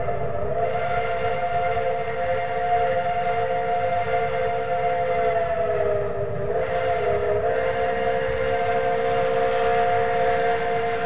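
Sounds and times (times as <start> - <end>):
low rumble of a train: 0.0 - 11.0
steam locomotive whistle: 0.0 - 11.0.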